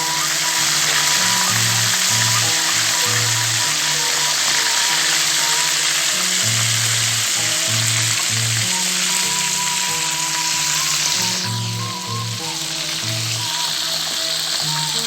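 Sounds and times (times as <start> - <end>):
background music: 0.0 - 15.0
fish sizzling in a pan: 0.0 - 15.0.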